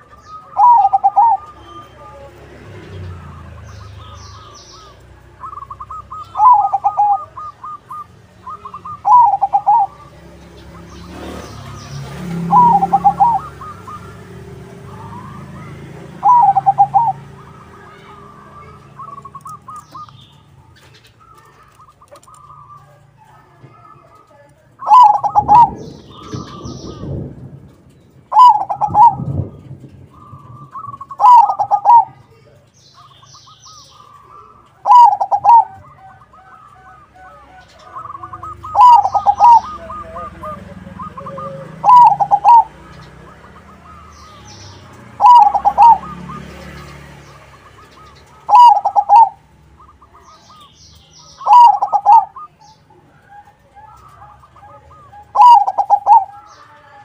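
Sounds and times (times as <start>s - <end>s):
dove rippling cooing: 0.0s - 56.8s
small birds chirping: 0.0s - 57.0s.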